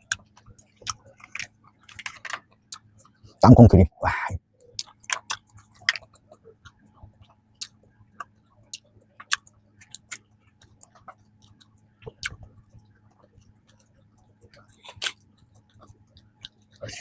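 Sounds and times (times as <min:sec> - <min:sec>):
chewing with mouth clicks: 0:00.0 - 0:03.4, 0:04.6 - 0:16.9.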